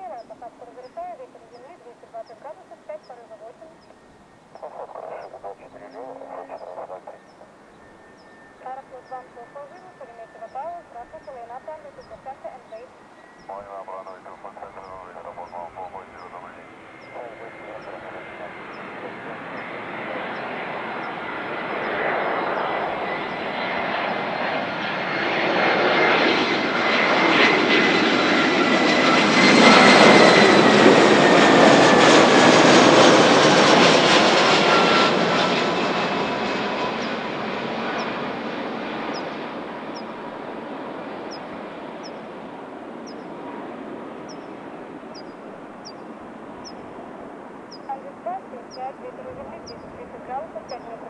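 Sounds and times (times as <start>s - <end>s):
jet airliner passing low: 0.0s - 51.0s
jet engine whine: 0.0s - 51.0s.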